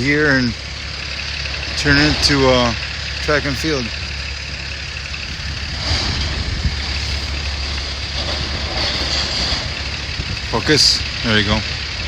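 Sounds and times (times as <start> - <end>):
diesel machinery engines humming: 0.0 - 12.0.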